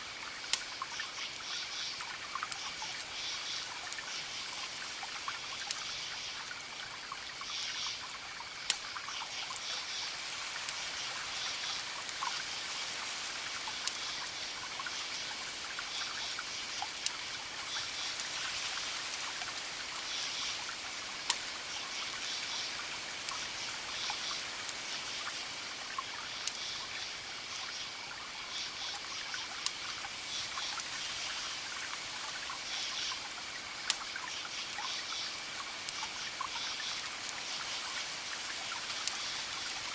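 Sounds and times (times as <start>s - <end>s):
campfire crackling: 0.0s - 39.9s
crickets chirping: 0.1s - 39.9s.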